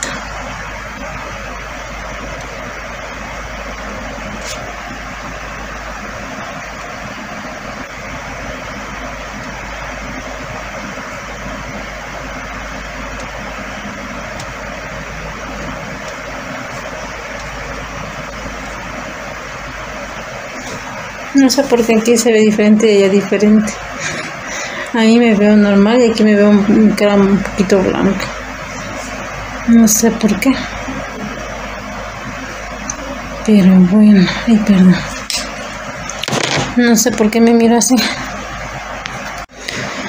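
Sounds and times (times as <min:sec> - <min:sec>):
low hum: 0:00.0 - 0:40.0
steady background noise: 0:00.0 - 0:40.0.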